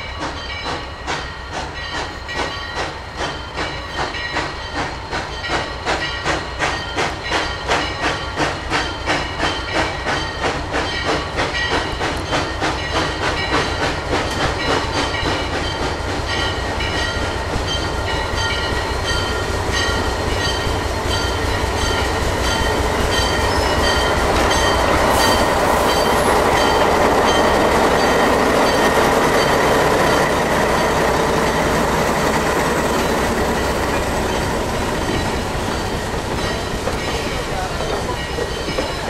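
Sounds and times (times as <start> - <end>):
diesel locomotive engine rumble: 0.0 - 39.0.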